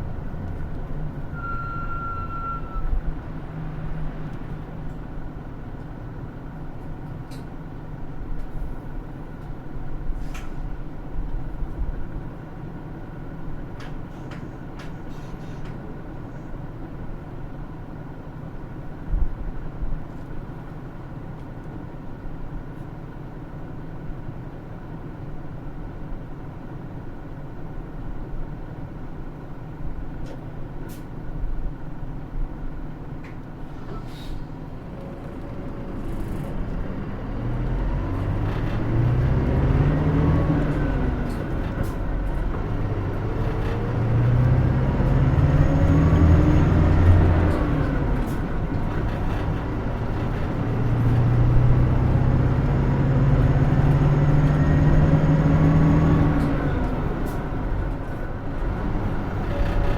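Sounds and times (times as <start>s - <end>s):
bus diesel engine accelerating: 0.0s - 59.9s.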